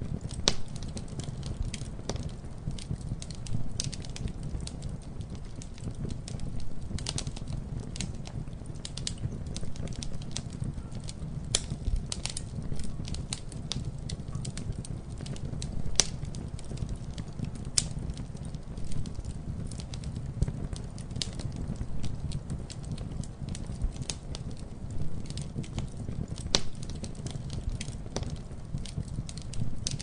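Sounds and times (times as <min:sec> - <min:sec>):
burning wood popping and snapping: 0:00.0 - 0:30.0
campfire flames rumbling: 0:00.0 - 0:30.0.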